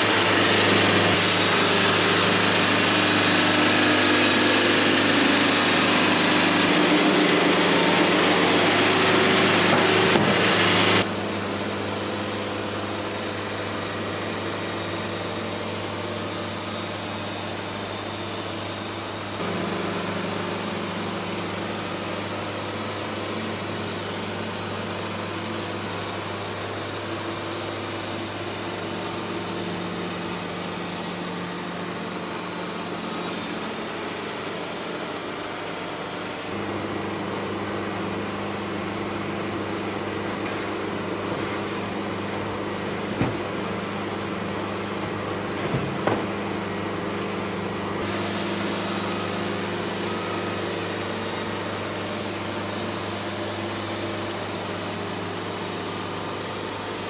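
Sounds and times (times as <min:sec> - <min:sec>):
band sawmill running: 0:00.0 - 0:57.0.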